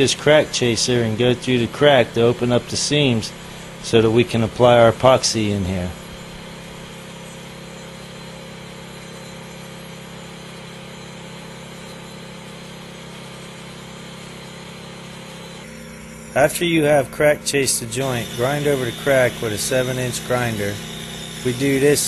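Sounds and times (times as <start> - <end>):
angle grinder grinding concrete: 0.0 - 22.0.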